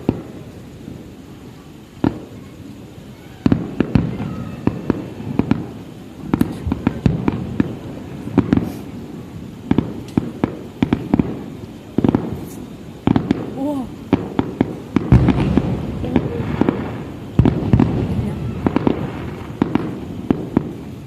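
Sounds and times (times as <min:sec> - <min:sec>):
fireworks bursting with bangs: 0:00.0 - 0:21.0.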